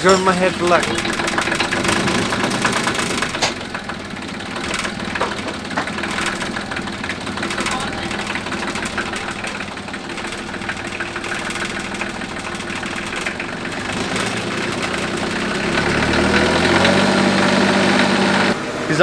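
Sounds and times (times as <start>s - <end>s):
diesel generator running: 0.0s - 19.0s.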